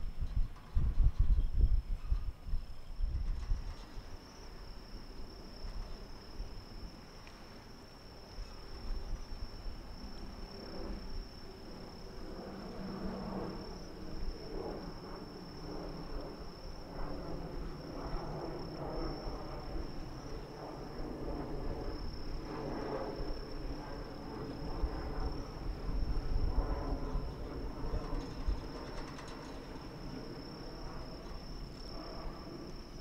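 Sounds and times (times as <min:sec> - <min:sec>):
crickets trilling: 0:00.2 - 0:33.0.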